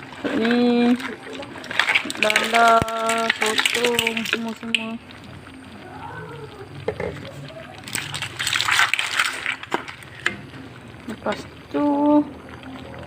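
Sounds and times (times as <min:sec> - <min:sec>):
wet sloshing: 0:00.0 - 0:05.9, 0:07.0 - 0:11.6.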